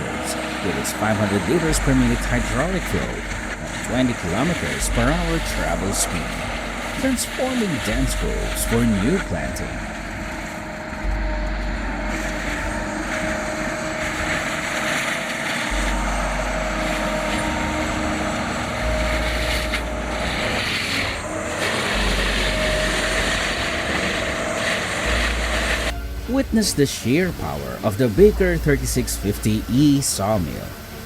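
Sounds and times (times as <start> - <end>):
continuous grinding: 0.0 - 31.0
mulcher engine under load: 0.0 - 31.0
steady whine: 0.0 - 31.0.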